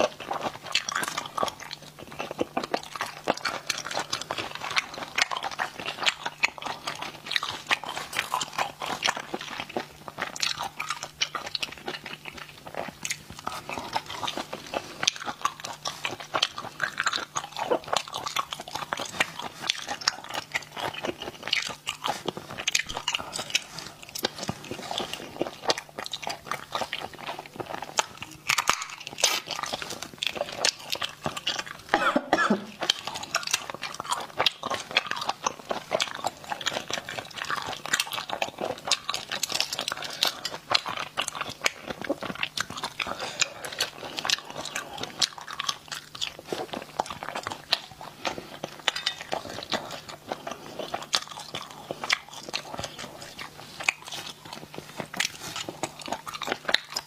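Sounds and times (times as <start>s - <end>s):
woman chewing snails: 0.0s - 57.0s.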